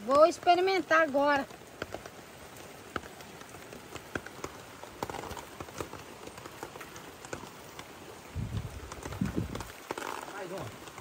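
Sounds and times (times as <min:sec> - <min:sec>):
drops tapping on plastic tarp: 0:00.0 - 0:11.0
light rain falling: 0:00.0 - 0:11.0.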